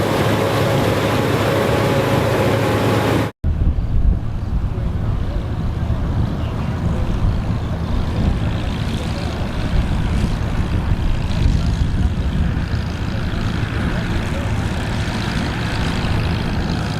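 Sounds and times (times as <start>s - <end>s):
farm machinery engine rumble: 0.0s - 16.9s.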